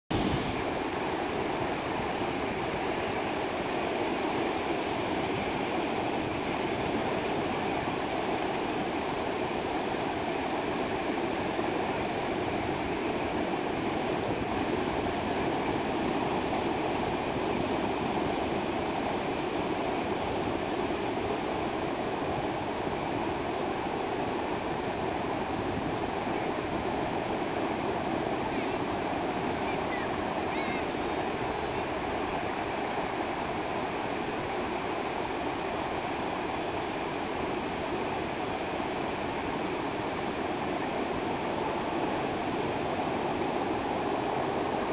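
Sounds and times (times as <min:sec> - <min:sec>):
ocean surf wash: 0:00.1 - 0:44.9.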